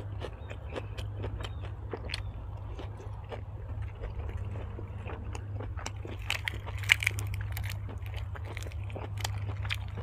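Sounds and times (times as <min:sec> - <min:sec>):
low hum: 0:00.0 - 0:10.0
person chewing food: 0:00.0 - 0:10.0.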